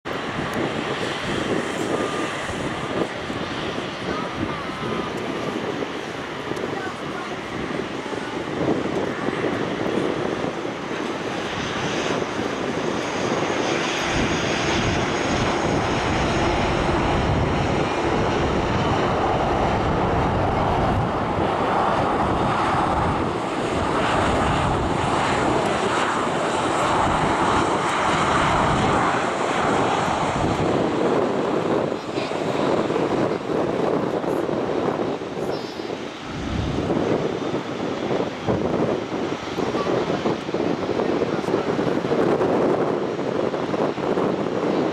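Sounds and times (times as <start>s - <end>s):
jet engine rumble: 0.0s - 44.9s.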